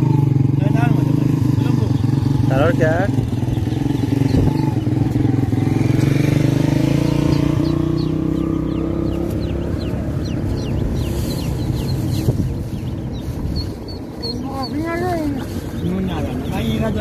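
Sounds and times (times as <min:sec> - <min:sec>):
vehicle engine running: 0:00.0 - 0:17.0
chicks and ducklings peeping: 0:01.2 - 0:17.0.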